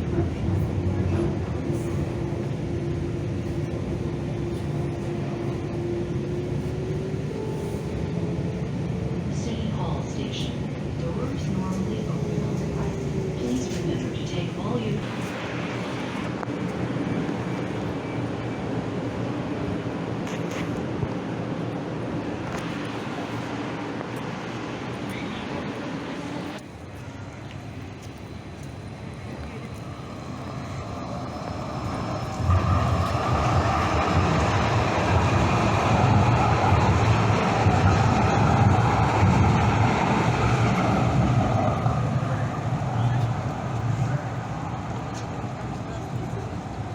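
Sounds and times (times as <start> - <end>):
vehicle rumbling in motion: 0.0 - 46.9.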